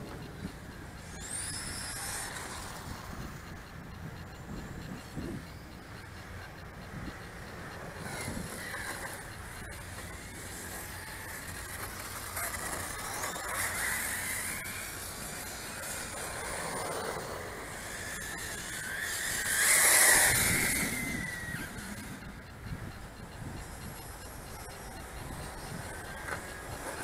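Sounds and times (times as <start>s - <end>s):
radio-controlled car motors whining: 0.0s - 27.0s.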